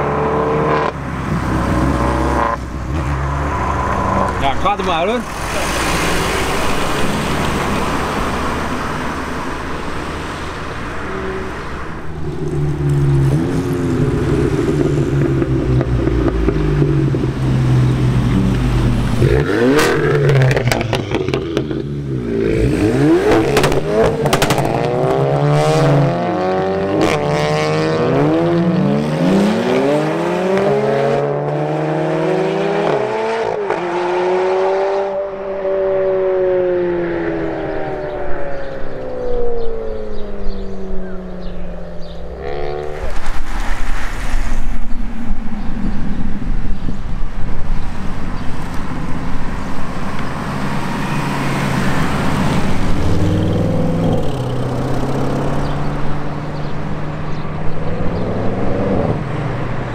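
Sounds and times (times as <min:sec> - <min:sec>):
car engine revving: 0:00.0 - 0:47.0, 0:48.0 - 0:59.9.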